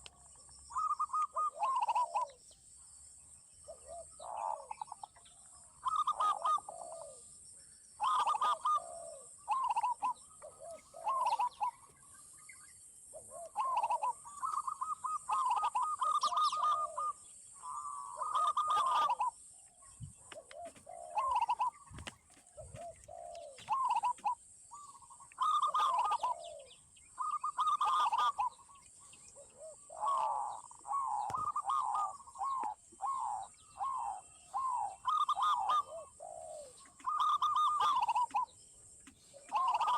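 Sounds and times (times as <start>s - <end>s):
doves cooing: 0.0s - 2.5s, 3.6s - 7.3s, 8.0s - 12.1s, 13.1s - 39.9s.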